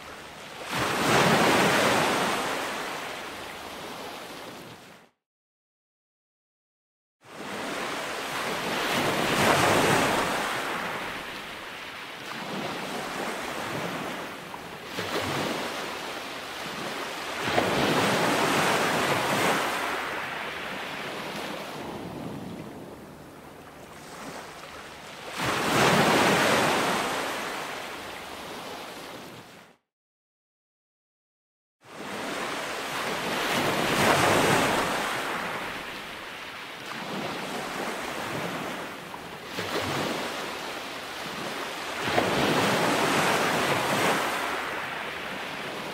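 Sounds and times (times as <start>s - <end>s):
ocean waves: 0.0s - 5.1s, 7.3s - 29.8s, 31.9s - 45.9s.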